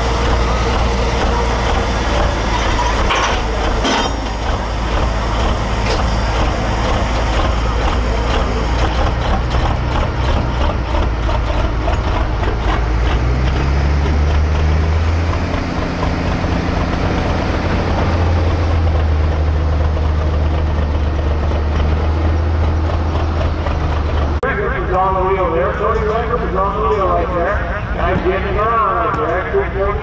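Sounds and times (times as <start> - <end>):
diesel truck engine: 0.0 - 30.0.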